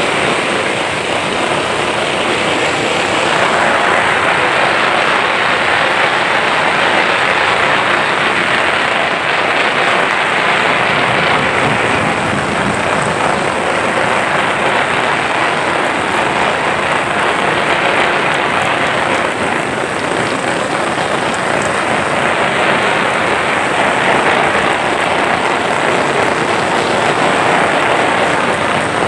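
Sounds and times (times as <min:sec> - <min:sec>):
heavy rain on pavement: 0:00.0 - 0:29.0.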